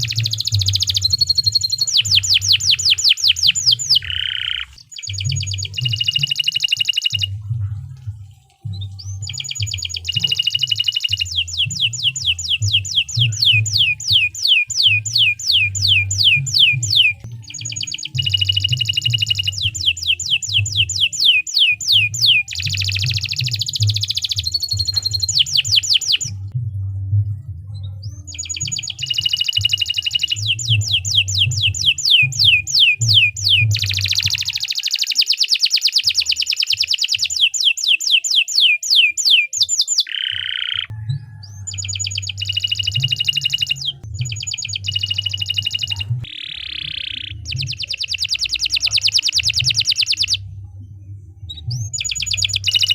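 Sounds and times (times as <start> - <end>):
canary singing: 0.0 - 7.6, 8.4 - 26.6, 27.8 - 52.9.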